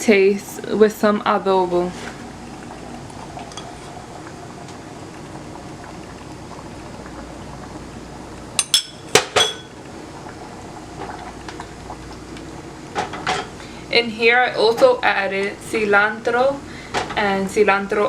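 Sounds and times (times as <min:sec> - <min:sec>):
pot of beans bubbling: 0:00.1 - 0:18.0.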